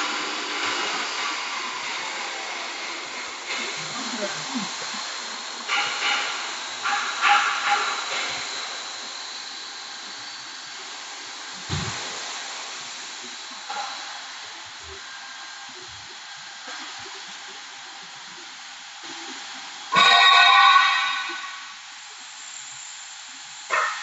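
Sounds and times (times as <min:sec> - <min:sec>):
wood lathe running with hiss: 0:00.0 - 0:24.0.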